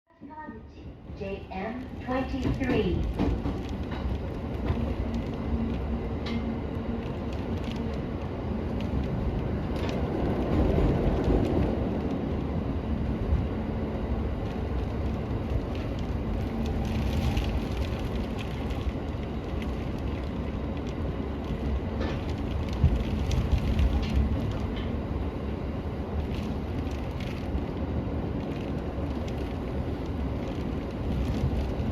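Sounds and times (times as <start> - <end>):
train running rumble: 0.1 - 31.9
rain ticking against train car: 1.5 - 12.4, 14.4 - 25.0, 26.1 - 31.9.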